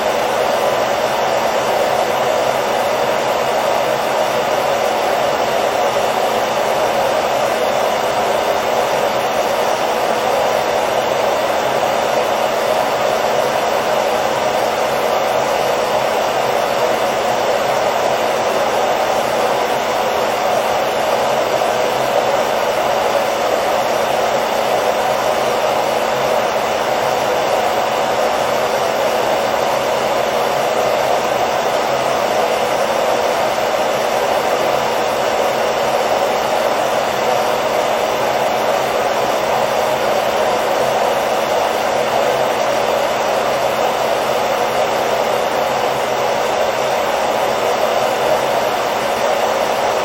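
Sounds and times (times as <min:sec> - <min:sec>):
hair dryer running: 0:00.0 - 0:50.0.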